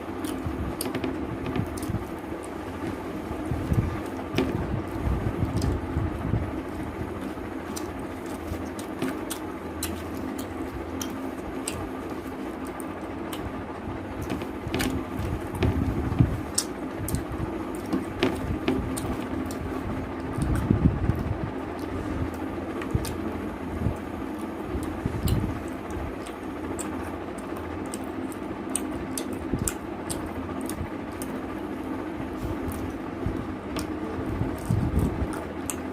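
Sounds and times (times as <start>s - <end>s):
low hum: 0.0s - 35.9s
person chewing food: 0.0s - 35.9s.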